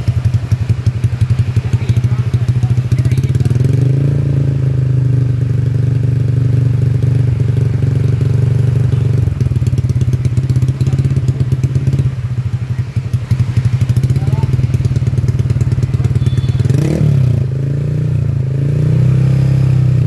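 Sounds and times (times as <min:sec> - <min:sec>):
scooter engine revving and idling: 0:00.0 - 0:20.0.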